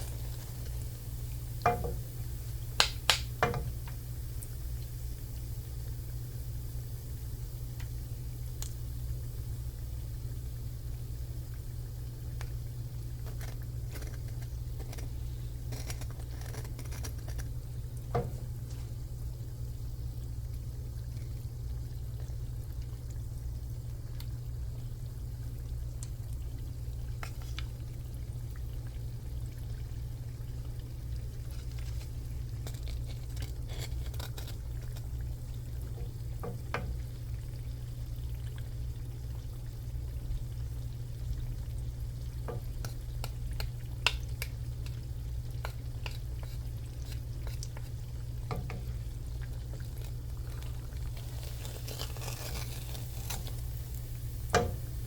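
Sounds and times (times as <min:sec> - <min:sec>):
shrimp frying in a pan: 0:00.0 - 0:21.7, 0:23.2 - 0:55.0
steady low hum: 0:00.0 - 0:55.0.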